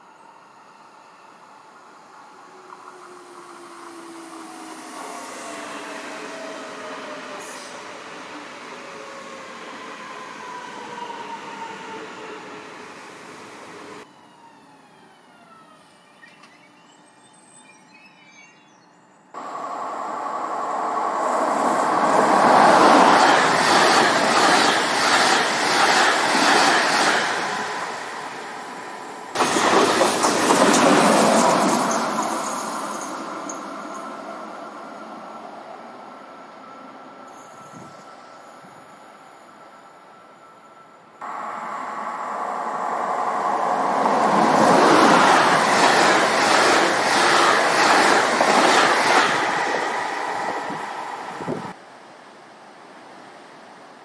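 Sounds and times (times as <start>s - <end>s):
train rushing past: 0.0s - 16.4s, 19.4s - 51.8s
train whine: 0.0s - 51.9s.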